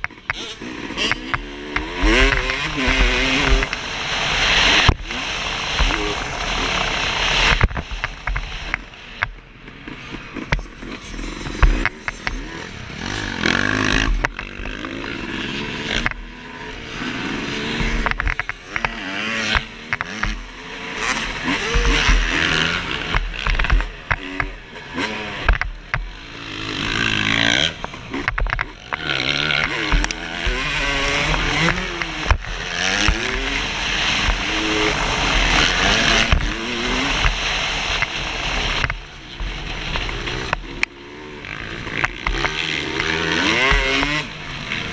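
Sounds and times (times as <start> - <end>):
motocross bike revving: 0.0 - 44.9.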